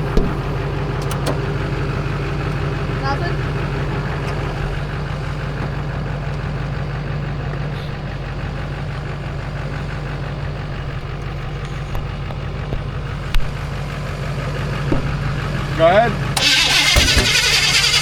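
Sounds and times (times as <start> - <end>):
pickup truck engine idling: 0.0 - 18.0.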